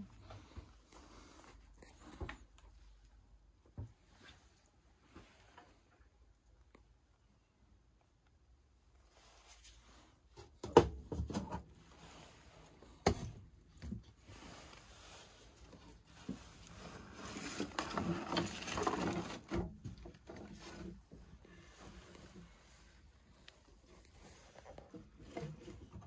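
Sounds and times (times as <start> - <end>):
rustling and shuffling: 0.0 - 26.0.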